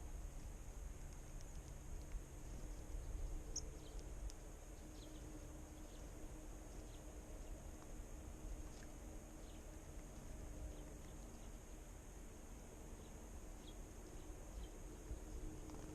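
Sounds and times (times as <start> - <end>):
low outdoor rumble: 0.0 - 15.9
small birds chirping: 0.0 - 15.9
steady high-pitched hiss: 0.0 - 15.9.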